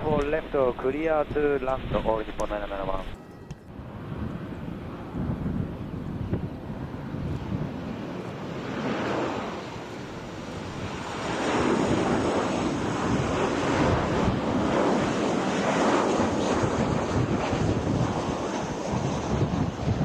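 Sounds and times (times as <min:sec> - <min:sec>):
jet airliner landing: 0:00.0 - 0:20.0
wind buffeting microphone: 0:00.0 - 0:20.0.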